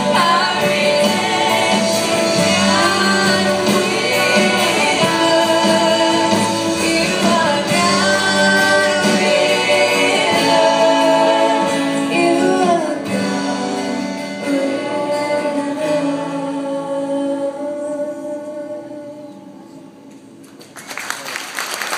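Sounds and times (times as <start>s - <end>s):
band playing: 0.0s - 17.8s
woman singing a worship song: 0.0s - 19.7s
acoustic guitar: 0.0s - 20.6s.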